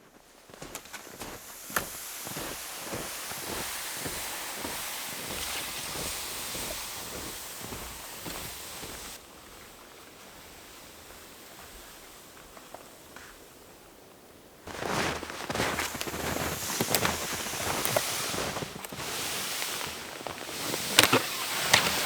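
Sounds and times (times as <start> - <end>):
wind rushing through trees: 0.0 - 22.0.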